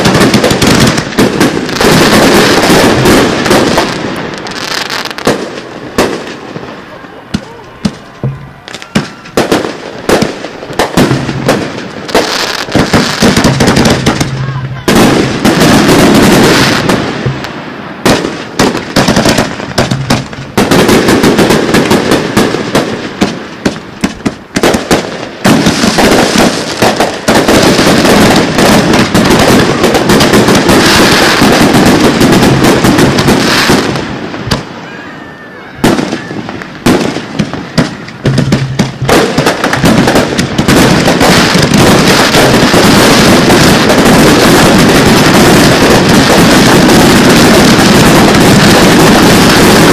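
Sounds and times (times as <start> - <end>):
fireworks bursting with crackle: 0.0 - 49.9.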